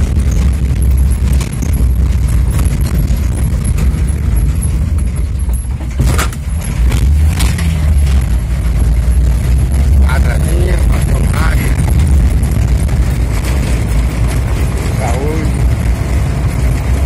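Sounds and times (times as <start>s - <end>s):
car body rattles and knocks: 0.0s - 17.0s
engine and tyre rumble: 0.0s - 17.0s.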